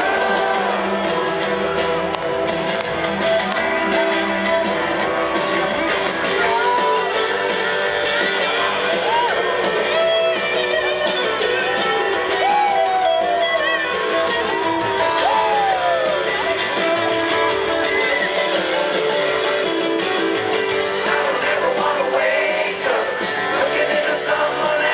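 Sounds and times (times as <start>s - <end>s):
strummed guitars and mandolin: 0.0s - 24.9s.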